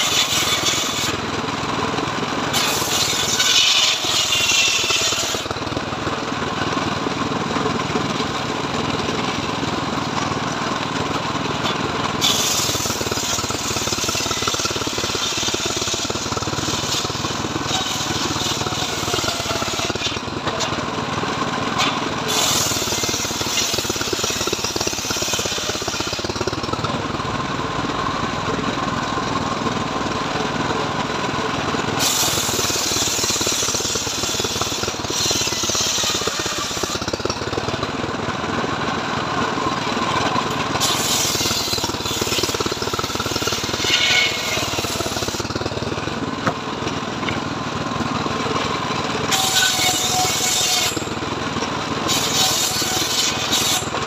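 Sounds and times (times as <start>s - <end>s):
saw blade cutting log: 0.0s - 27.0s, 31.8s - 38.3s, 39.6s - 47.4s, 48.2s - 54.0s
circular saw running: 0.0s - 54.0s.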